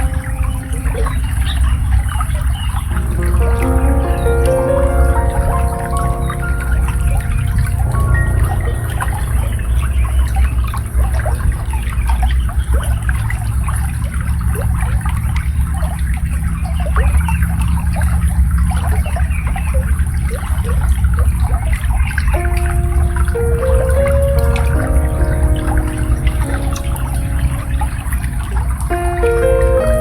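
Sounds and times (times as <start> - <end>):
shallow water babbling: 0.0 - 20.3, 22.3 - 30.0.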